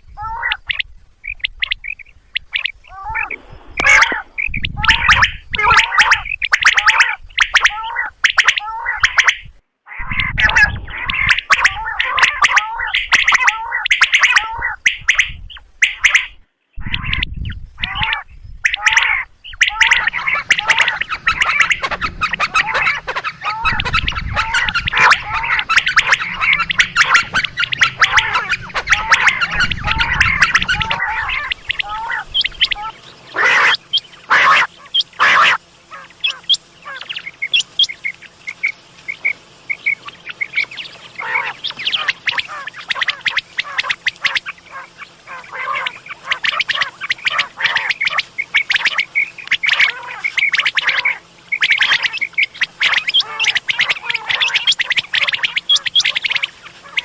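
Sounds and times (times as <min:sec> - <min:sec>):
quail calling: 0:00.0 - 0:57.0.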